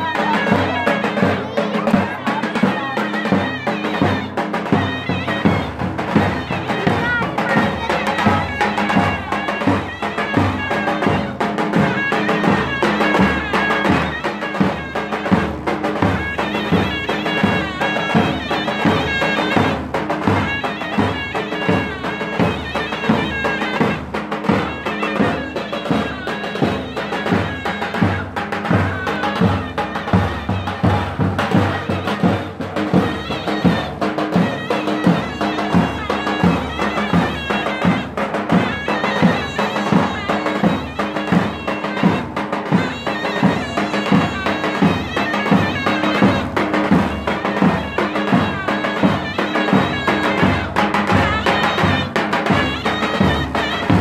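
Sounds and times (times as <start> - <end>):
reed wind instrument melody: 0.0 - 54.0.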